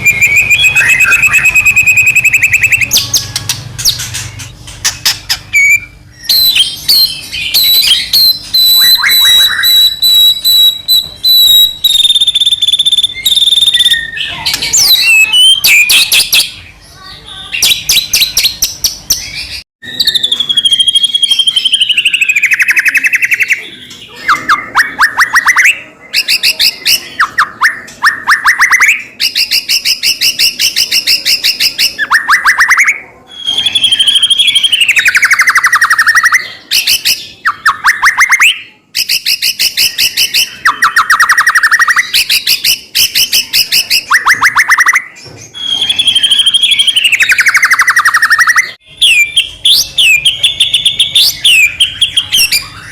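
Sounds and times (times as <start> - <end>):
bird singing: 0.0 - 52.9.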